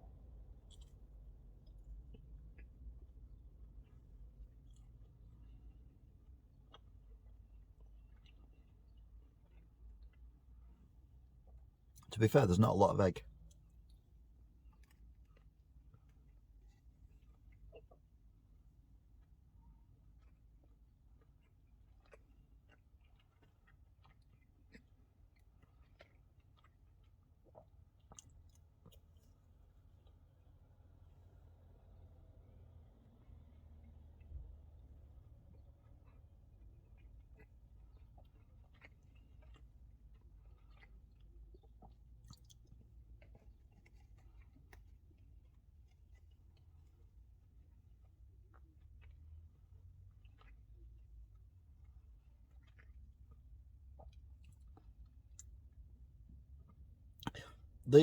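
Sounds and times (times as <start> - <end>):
low background hum: 0.0 - 58.0
faint chewing mouth clicks: 0.4 - 12.1, 14.6 - 18.2, 20.0 - 30.4, 33.8 - 57.6.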